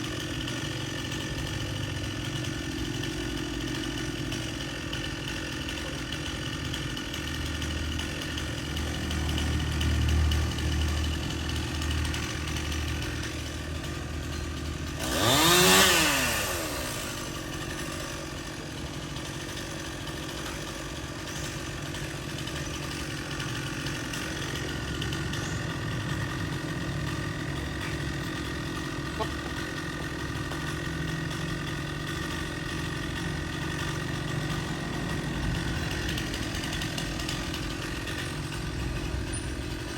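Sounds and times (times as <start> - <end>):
chainsaw engine idling and revving: 0.0 - 39.9.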